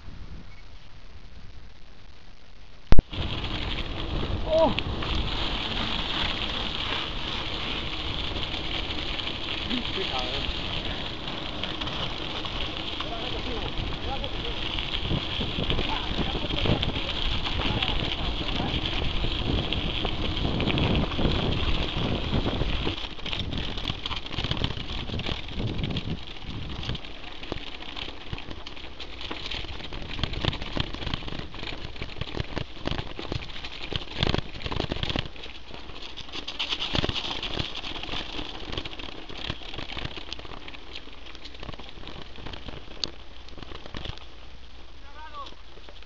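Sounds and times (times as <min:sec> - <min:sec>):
bike tyres crunching on gravel: 0:00.0 - 0:46.0
bike clicks and rattles: 0:03.0 - 0:46.0.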